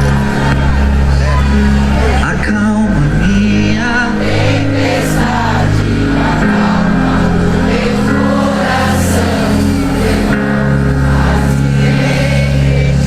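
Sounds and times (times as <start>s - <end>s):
band holding sustained chords: 0.0s - 13.0s
people singing: 0.0s - 13.0s.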